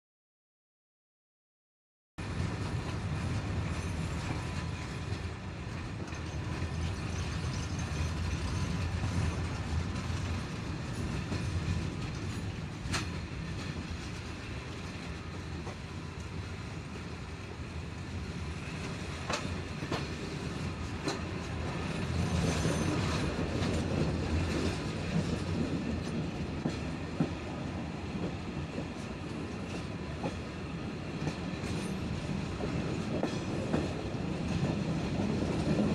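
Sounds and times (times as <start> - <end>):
train wheels rumbling on track: 2.2 - 35.9.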